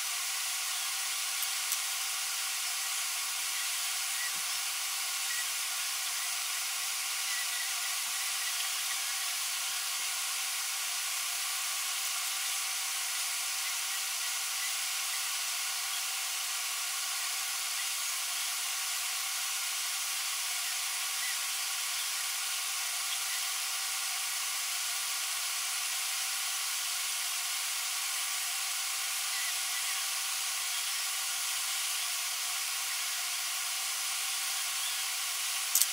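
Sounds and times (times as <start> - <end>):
steady hiss: 0.0 - 35.9.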